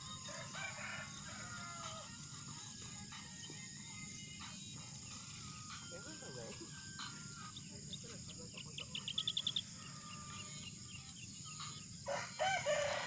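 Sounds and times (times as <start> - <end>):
bird chirping: 0.0 - 13.0
faint outdoor background: 0.0 - 13.0.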